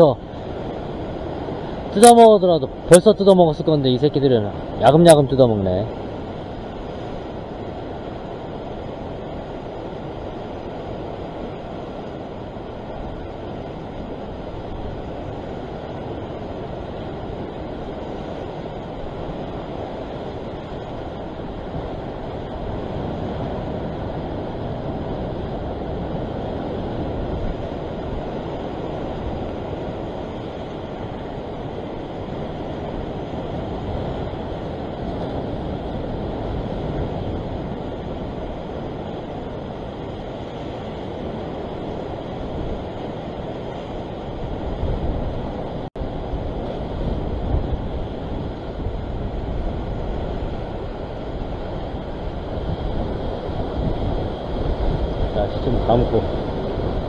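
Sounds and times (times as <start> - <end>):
sea surf breaking on rocks: 0.0 - 57.0
wind buffeting microphone: 0.0 - 57.0.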